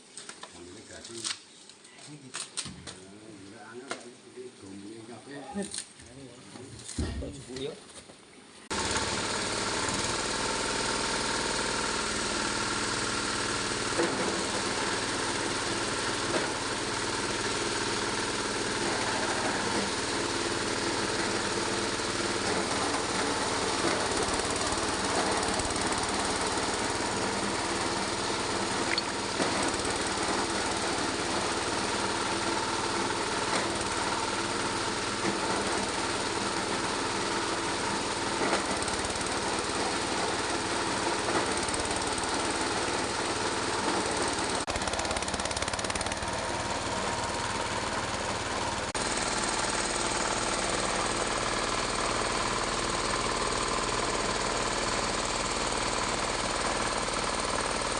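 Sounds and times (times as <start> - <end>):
shredding machine running: 8.7 - 57.9.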